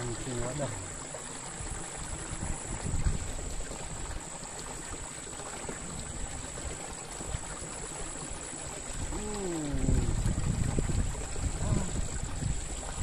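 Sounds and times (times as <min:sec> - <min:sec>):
water running through ditch: 0:00.0 - 0:13.0.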